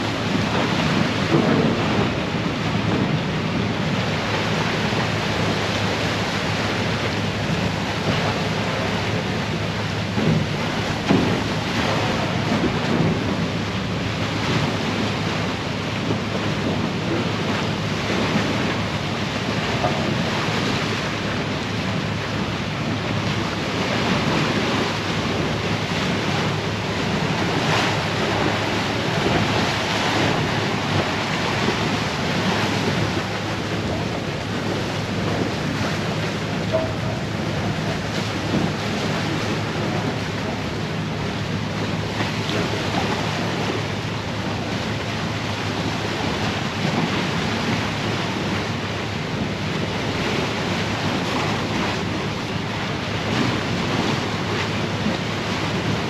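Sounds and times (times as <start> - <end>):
low engine hum: 0.0 - 56.0
rush of crushing ice and water: 0.0 - 56.0
wind buffeting microphone: 0.0 - 56.0.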